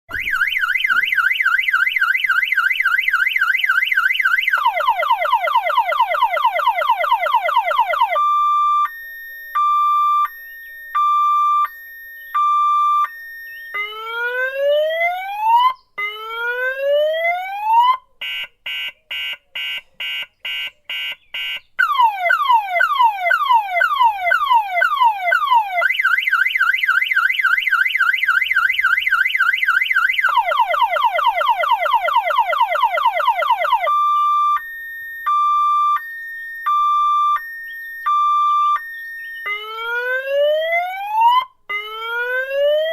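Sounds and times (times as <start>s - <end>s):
car alarm siren: 0.1s - 42.9s.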